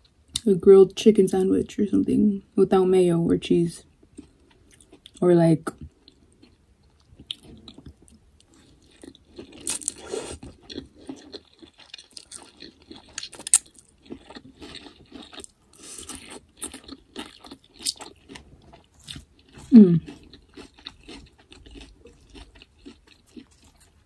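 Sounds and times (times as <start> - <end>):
chewing and crunching: 3.9 - 24.0.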